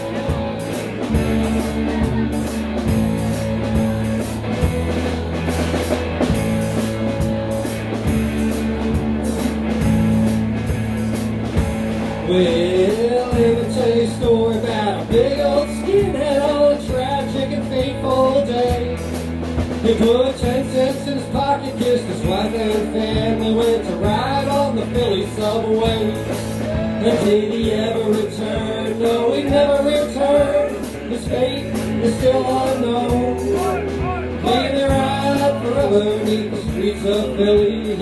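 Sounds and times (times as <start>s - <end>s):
drum kit beat: 0.0s - 38.0s
guitar chords: 0.0s - 38.0s.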